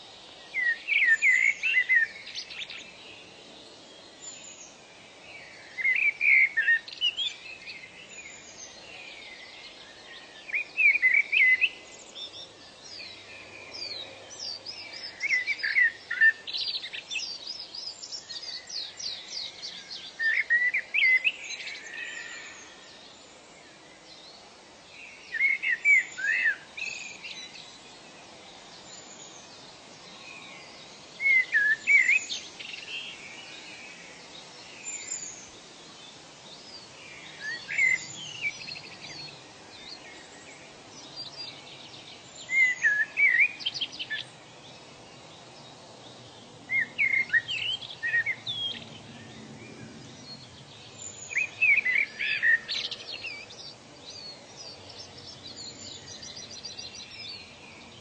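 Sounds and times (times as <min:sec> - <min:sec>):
faint steady background noise: 0:00.0 - 0:58.0.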